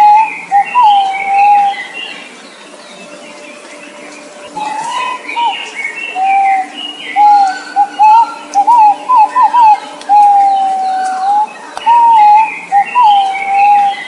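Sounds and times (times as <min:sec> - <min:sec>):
bird whistling loudly: 0:00.0 - 0:02.0, 0:04.6 - 0:14.0
birds chirping faintly: 0:00.0 - 0:14.0.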